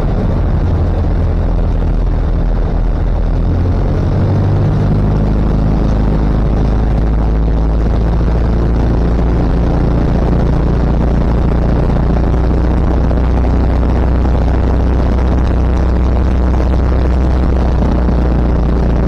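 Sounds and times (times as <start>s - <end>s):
floatplane engine and propeller idling: 0.0s - 19.0s.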